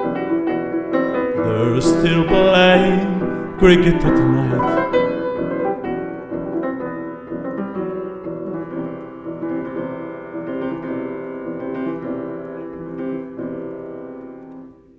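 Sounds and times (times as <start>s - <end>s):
solo piano: 0.0s - 14.9s.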